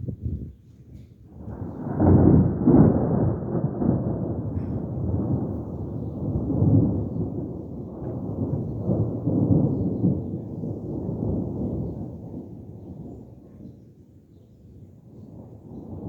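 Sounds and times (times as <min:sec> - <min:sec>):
rolling thunder: 0:00.0 - 0:14.1, 0:14.7 - 0:16.0.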